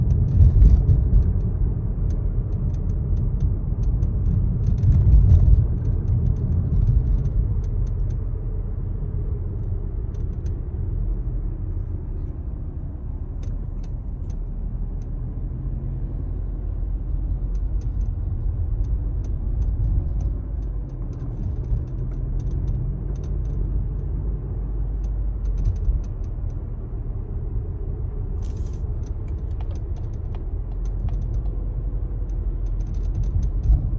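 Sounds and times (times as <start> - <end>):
road noise rumble: 0.0 - 33.9.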